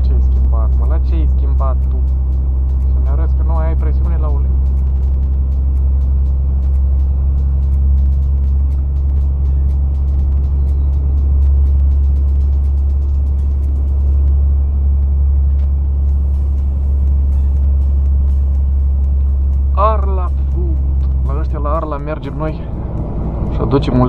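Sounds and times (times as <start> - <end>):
diesel truck engine droning: 0.0 - 24.0.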